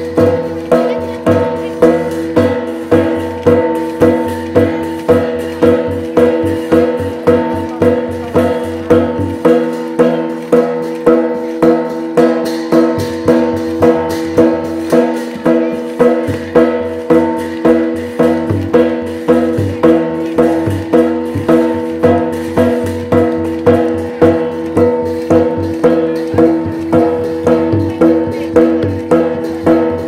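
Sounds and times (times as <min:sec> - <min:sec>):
drums and percussion beat: 0:00.0 - 0:30.0.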